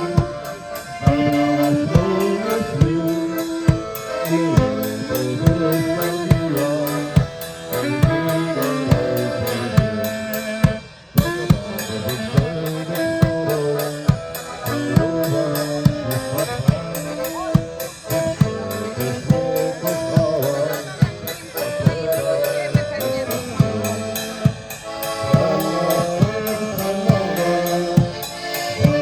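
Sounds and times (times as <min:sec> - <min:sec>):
drum kit beat: 0:00.0 - 0:29.0
live band playing: 0:00.0 - 0:29.0.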